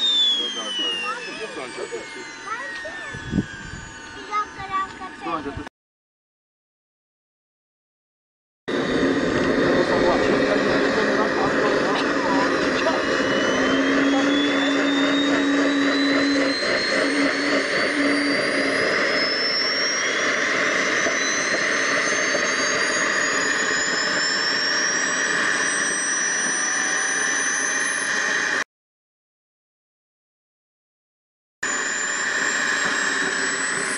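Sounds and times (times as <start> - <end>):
model jet turbine whine: 0.0 - 5.7, 8.7 - 28.7, 31.6 - 33.9.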